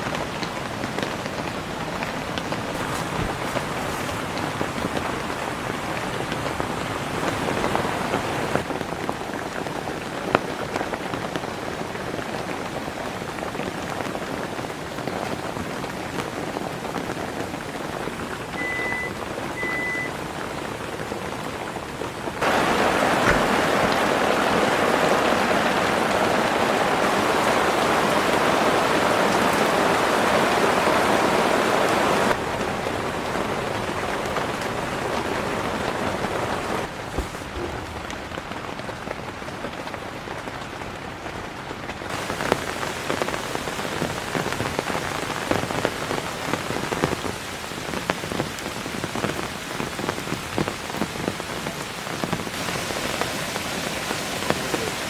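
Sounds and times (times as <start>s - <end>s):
heavy rain on a shelter: 0.0s - 55.0s.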